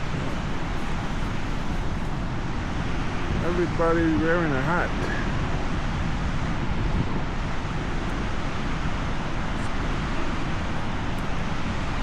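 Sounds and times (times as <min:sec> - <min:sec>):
wind hissing on microphone: 0:00.0 - 0:12.0.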